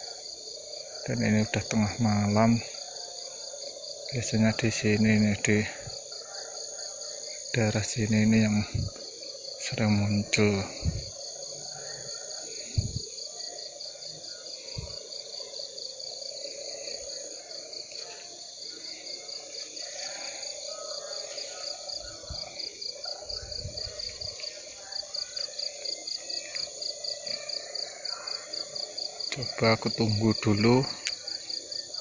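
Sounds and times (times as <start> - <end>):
cricket chirping: 0.0 - 32.0
high buzz of insects: 0.0 - 32.0.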